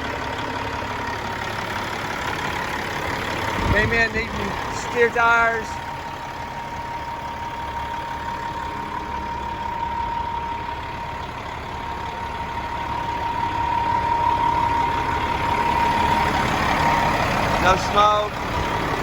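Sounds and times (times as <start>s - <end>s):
diesel truck engine idling: 0.0s - 19.0s
steady high tone: 3.4s - 19.0s.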